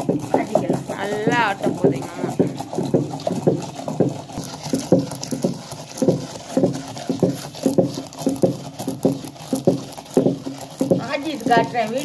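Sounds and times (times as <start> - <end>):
stone grinder pestle knocking: 0.0 - 12.0.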